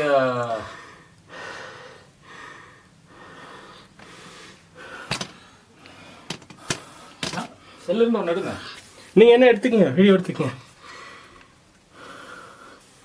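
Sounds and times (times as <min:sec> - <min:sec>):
person breathing hard: 0:00.6 - 0:09.0, 0:10.7 - 0:13.0.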